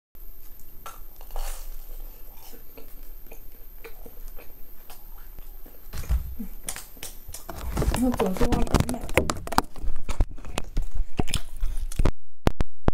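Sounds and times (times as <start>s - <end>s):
chewing crackles and mouth sounds: 0.3s - 12.1s
biting crusty pastry: 0.4s - 12.1s.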